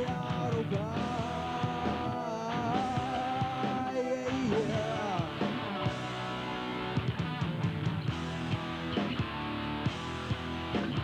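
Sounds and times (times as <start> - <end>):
rock band guitar and bass: 0.0 - 11.0.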